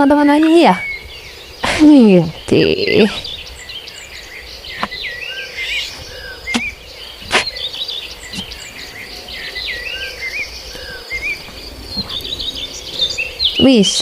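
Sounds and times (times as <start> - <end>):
faint insect drone: 0.0 - 14.0
small birds chirping: 0.0 - 14.0.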